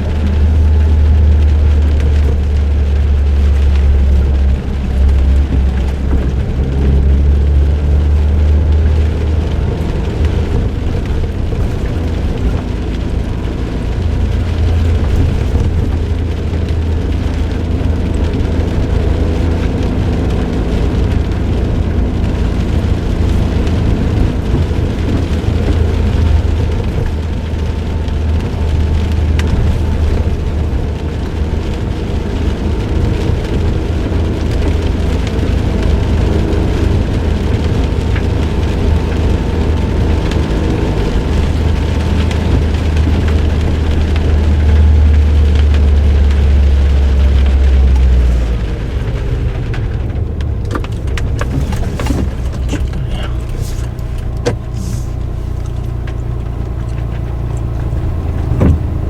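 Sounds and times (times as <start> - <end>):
car engine running: 0.0 - 59.0
tyre and road noise: 0.0 - 59.0.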